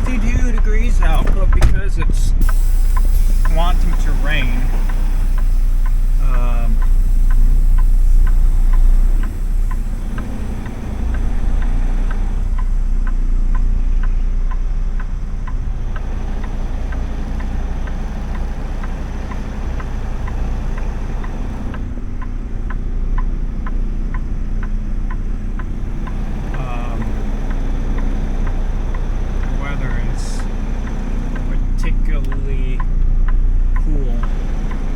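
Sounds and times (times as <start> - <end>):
engine and road rumble: 0.0 - 34.9.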